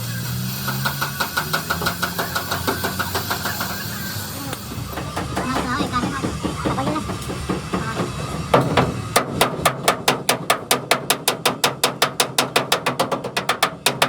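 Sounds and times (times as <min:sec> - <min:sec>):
hammer striking metal: 0:00.6 - 0:14.0.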